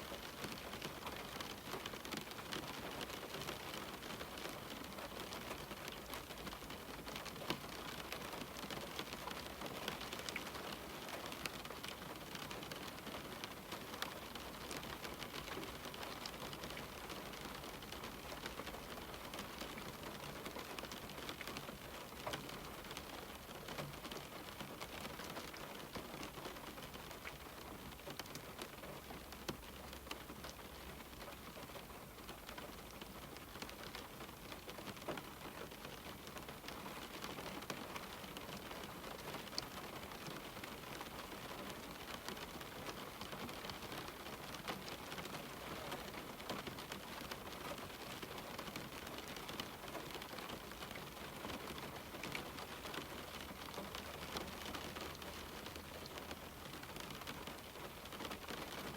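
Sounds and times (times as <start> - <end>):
rain on a window pane: 0.0 - 58.9.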